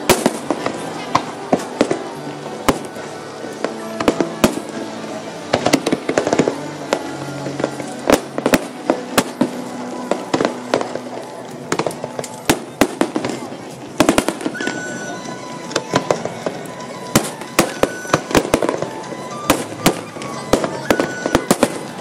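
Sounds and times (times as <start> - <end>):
fireworks bursting: 0.0 - 22.0
music playing: 0.0 - 22.0.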